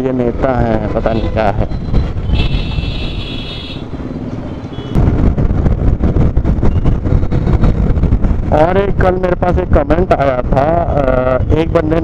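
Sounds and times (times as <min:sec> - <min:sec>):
traffic road noise: 0:00.0 - 0:12.0
wind noise: 0:00.7 - 0:04.1, 0:04.7 - 0:12.0.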